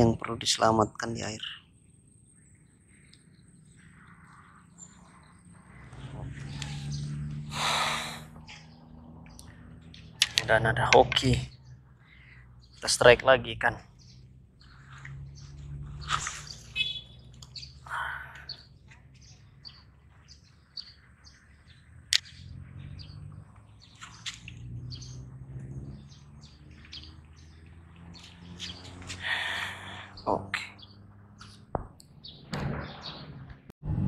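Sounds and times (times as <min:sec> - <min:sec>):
small birds chirping: 0:00.0 - 0:33.4.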